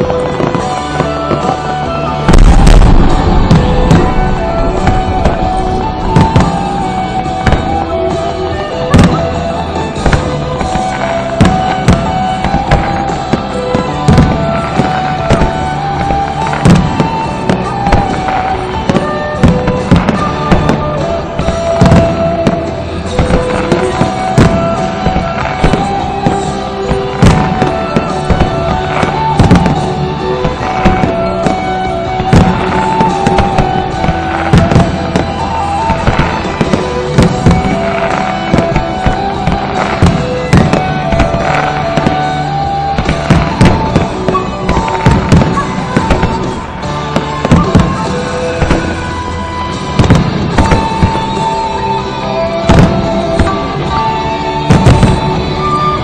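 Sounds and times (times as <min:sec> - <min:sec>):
fireworks bursting: 0:00.0 - 0:56.0
music: 0:00.0 - 0:56.0.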